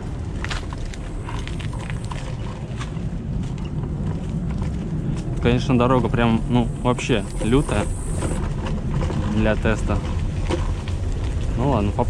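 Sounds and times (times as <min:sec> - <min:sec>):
electric scooter rumbling on dirt: 0:00.0 - 0:12.0
scooter rattling over bumps: 0:00.0 - 0:12.0.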